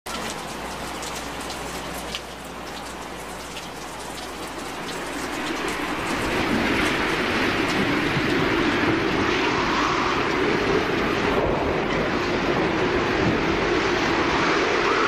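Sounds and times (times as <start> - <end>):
road and vehicle noise: 0.0 - 15.0
rain pattering on windscreen: 0.1 - 15.0.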